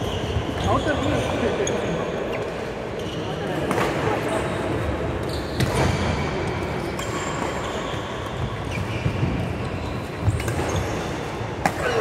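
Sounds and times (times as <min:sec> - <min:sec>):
shoes squeaking on wooden court: 0:00.0 - 0:11.4.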